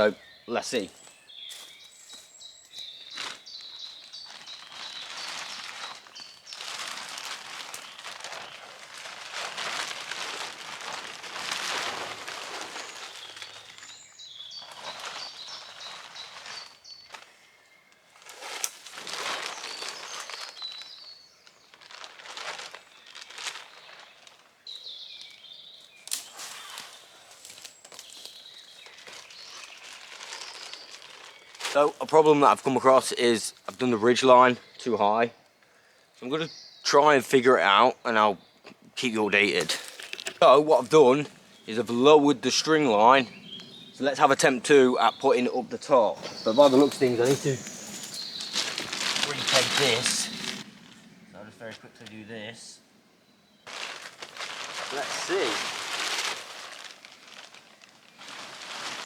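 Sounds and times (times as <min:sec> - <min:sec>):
birds chirping: 0:00.0 - 0:18.3, 0:18.9 - 0:21.9, 0:22.7 - 0:59.0
tarp rustling and crinkling: 0:00.0 - 0:34.8, 0:39.0 - 0:52.7, 0:53.5 - 0:59.0.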